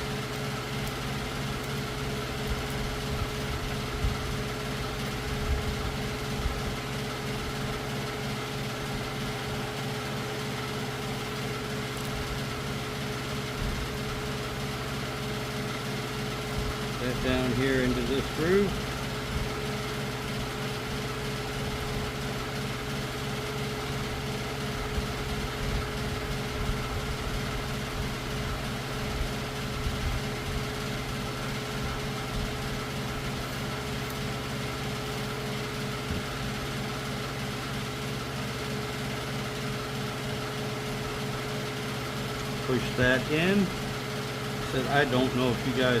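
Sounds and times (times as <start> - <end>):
motor humming: 0.0 - 46.0.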